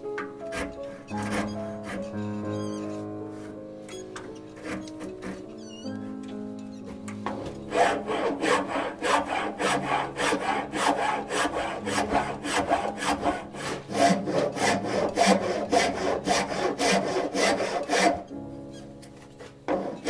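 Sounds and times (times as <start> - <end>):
hand tool rasping on wood: 0.4 - 18.4, 19.4 - 20.0.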